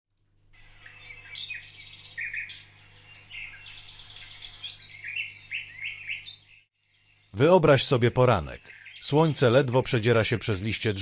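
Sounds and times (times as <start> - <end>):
songbirds singing: 0.5 - 11.0.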